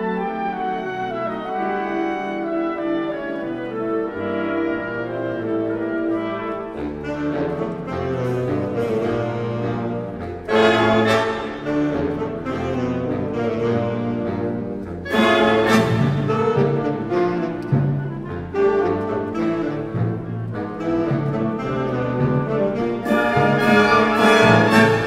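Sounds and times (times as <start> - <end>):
orchestra playing: 0.0 - 25.0.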